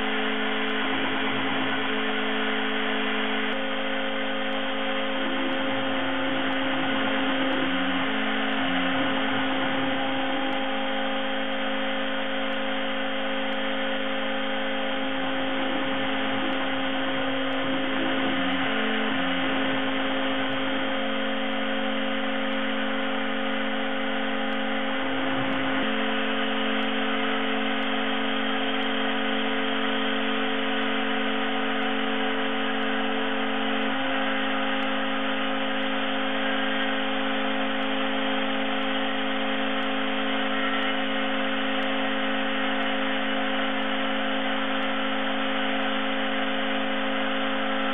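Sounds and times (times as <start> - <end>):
cutter milling foam: 0.0 - 47.9
spindle whining hum: 0.0 - 47.9.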